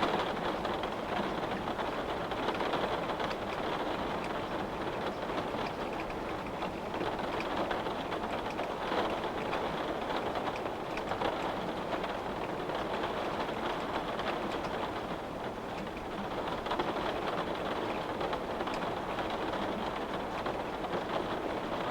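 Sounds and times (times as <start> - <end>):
rain on a windowpane: 0.0 - 21.9.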